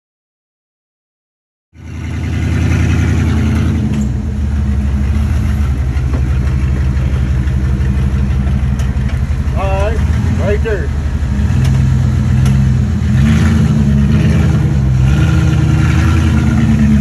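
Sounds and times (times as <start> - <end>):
vehicle engine running at low revs: 1.8 - 17.0.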